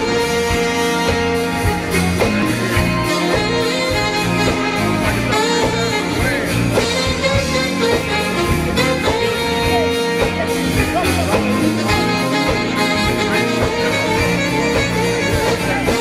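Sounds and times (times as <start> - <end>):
drum kit: 0.0 - 16.0
electric bass: 0.0 - 16.0
electric guitar: 0.0 - 16.0
trombone and saxophone horns: 0.0 - 16.0.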